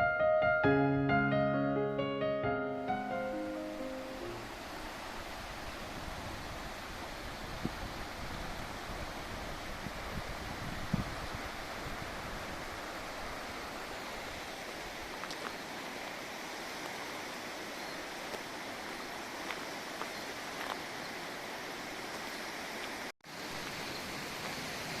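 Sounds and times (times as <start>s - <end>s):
mountain stream rushing: 2.4s - 25.0s.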